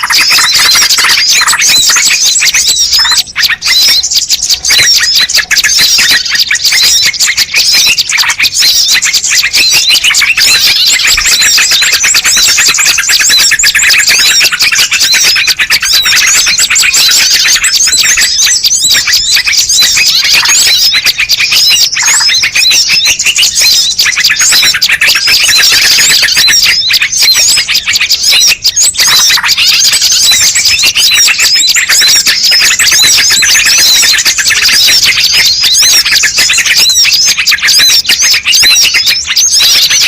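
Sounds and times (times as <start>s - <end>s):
many small birds chirping: 0.0s - 40.0s.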